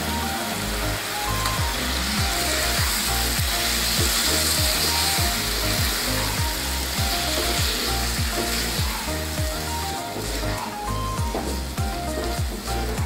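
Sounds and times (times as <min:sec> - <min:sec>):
background music with drum beat: 0:00.0 - 0:13.0
chicken sizzling in a pan: 0:00.0 - 0:13.0.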